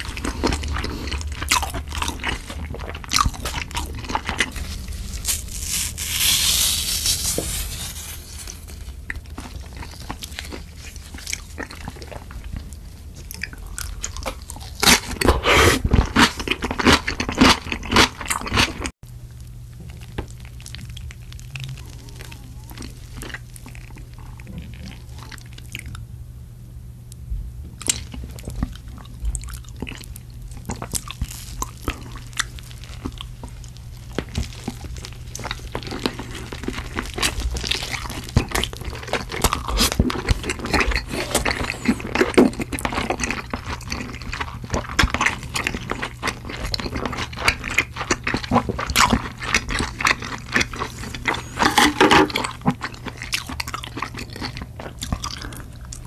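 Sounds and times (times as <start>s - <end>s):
steady low hum: 0.0s - 17.9s, 19.0s - 56.0s
crunching and chewing: 0.0s - 26.0s, 27.8s - 56.0s.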